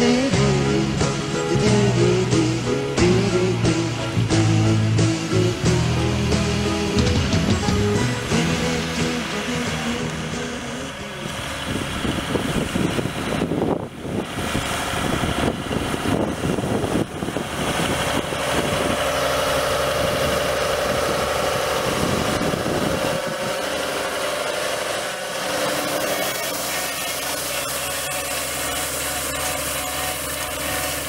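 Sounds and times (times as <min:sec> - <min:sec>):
steady higher note: 0:00.0 - 0:31.0
tractor diesel engine running: 0:00.0 - 0:31.0.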